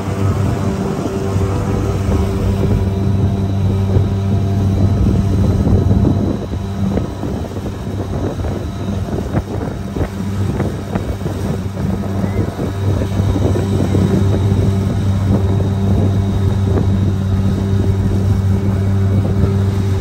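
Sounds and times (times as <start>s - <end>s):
boat motor humming: 0.0s - 20.0s
water splashing against hull: 0.0s - 20.0s.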